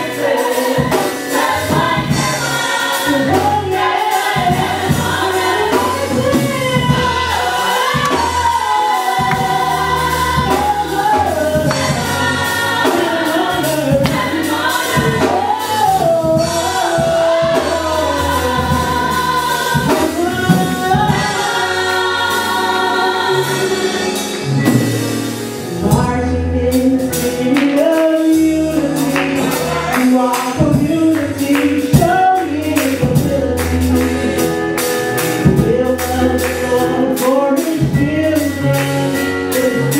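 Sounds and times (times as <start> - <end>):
group singing gospel: 0.0 - 39.9
live band with bass and drums: 0.0 - 39.9.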